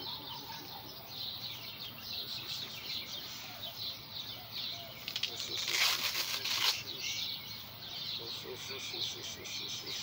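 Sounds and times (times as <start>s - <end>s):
birds chirping high calls: 0.0s - 10.0s.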